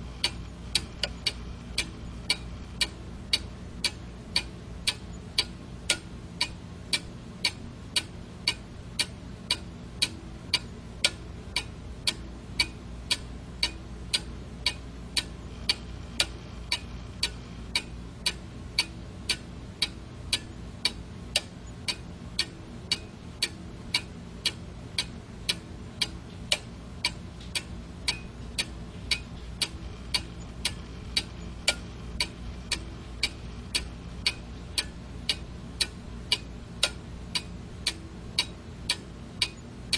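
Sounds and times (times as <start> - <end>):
low steady hum: 0.0 - 39.9
clock ticking: 0.1 - 39.9.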